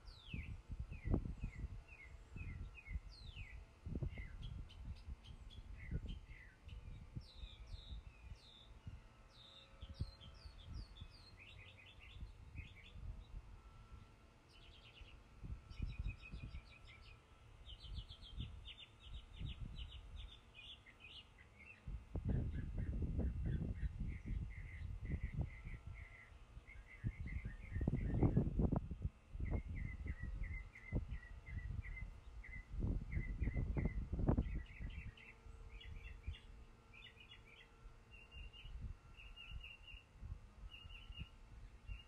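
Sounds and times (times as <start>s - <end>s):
songbirds chirping and trilling: 0.0s - 42.0s.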